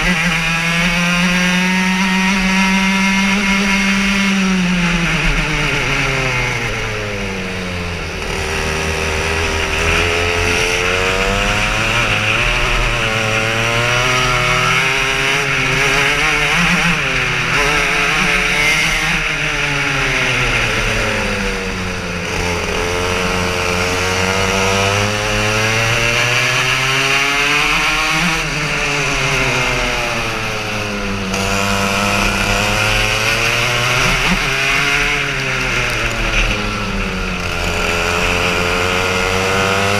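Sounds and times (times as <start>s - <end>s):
kart engine accelerating and slowing: 0.0s - 39.9s.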